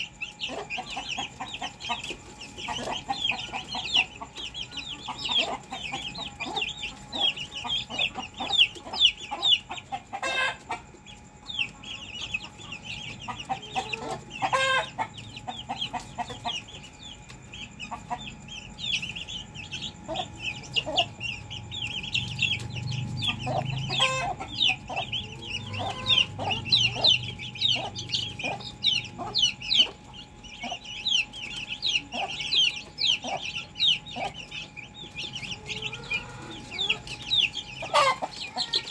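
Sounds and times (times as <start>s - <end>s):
chickens clucking: 0.0s - 38.9s
high twittering: 0.0s - 38.9s.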